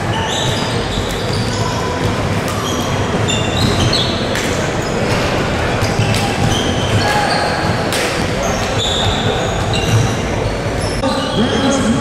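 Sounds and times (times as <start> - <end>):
indoor hall din: 0.0 - 12.0
sneaker squeaks: 0.0 - 12.0
basketball bouncing: 0.3 - 10.2.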